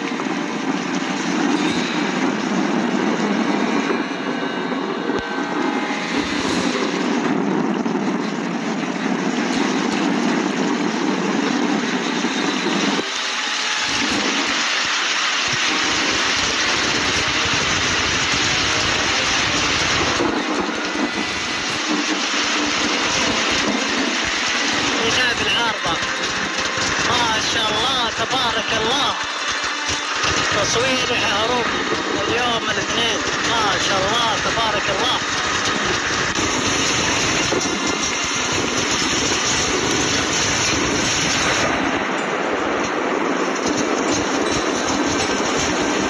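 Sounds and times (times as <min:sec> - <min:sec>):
floodwater rushing: 0:00.0 - 0:43.5.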